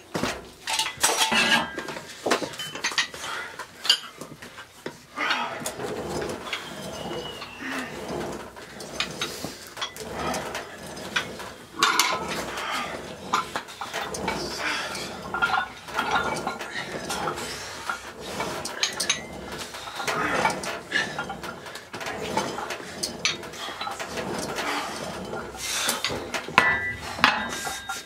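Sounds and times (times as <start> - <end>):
gym machine weights clanking: 0.0 - 28.0.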